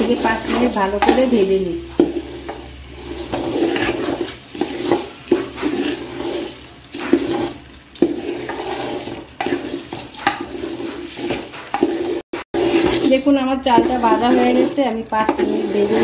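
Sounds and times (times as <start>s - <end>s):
metal spatula scraping pot: 0.0s - 16.0s
rice grains rustling: 0.0s - 16.0s.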